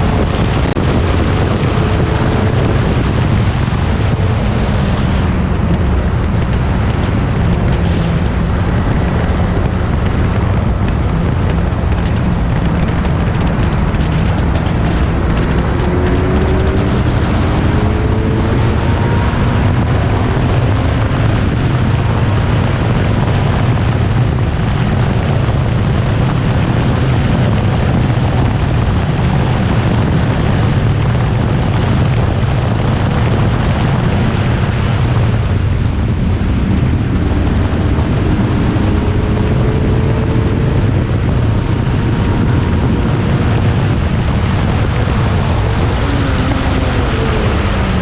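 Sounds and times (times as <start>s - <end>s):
racing car engines running hard: 0.0s - 48.0s
wind buffeting microphone: 0.0s - 48.0s.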